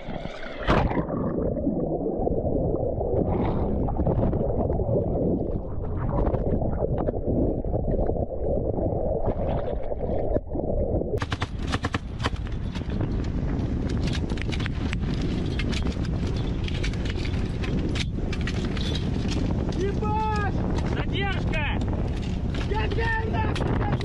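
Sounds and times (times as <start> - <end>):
wind buffeting microphone: 1.3 - 24.0.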